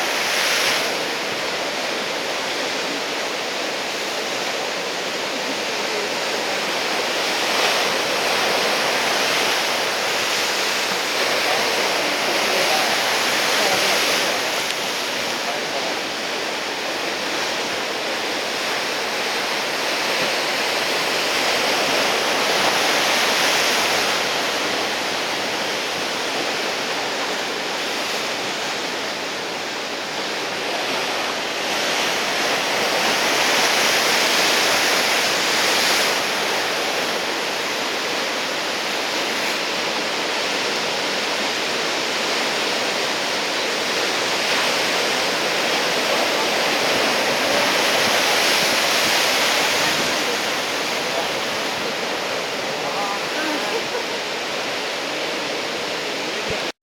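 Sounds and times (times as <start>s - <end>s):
ocean waves breaking: 0.0s - 56.8s.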